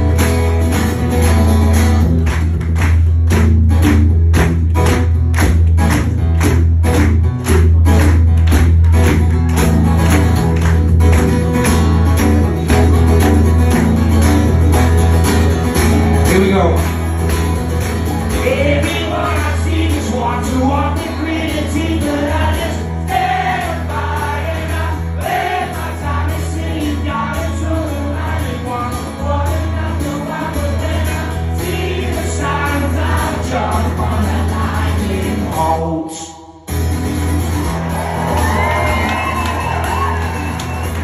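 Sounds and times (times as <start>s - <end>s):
heavy bass: 0.0s - 35.7s
strummed acoustic guitar: 0.0s - 41.0s.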